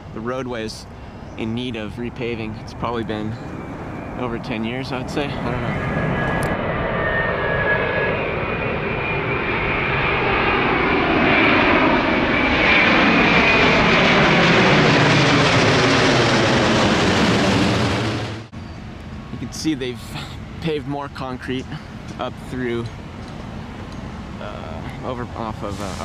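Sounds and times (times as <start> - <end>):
airliner passing low overhead: 0.0 - 26.0.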